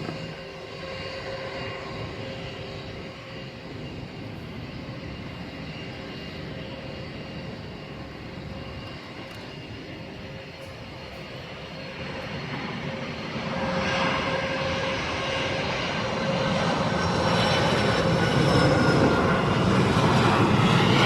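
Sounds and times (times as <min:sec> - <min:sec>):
jet engines whining: 0:00.0 - 0:21.0.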